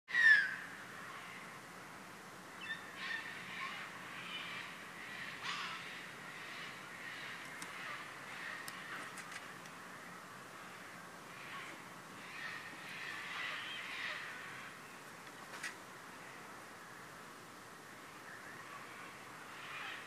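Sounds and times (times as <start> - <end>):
birds calling: 0.1 - 1.6, 2.4 - 17.2, 17.9 - 20.0
background hiss: 0.1 - 20.0.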